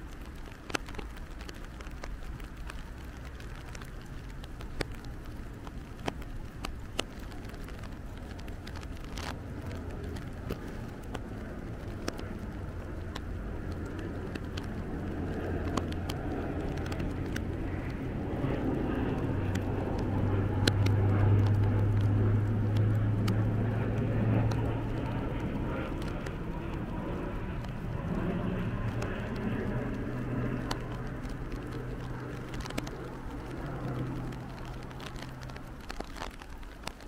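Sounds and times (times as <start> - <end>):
raindrops ticking: 0.0 - 37.0
tyre and road noise: 0.0 - 37.0
vehicle engine hum: 0.0 - 37.0.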